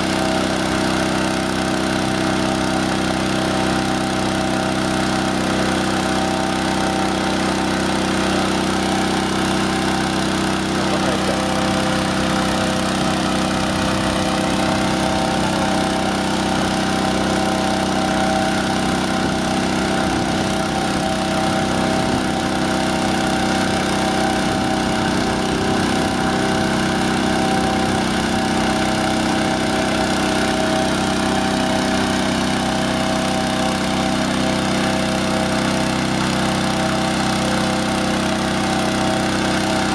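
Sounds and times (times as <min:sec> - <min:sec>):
engine-driven fan running: 0:00.0 - 0:39.9.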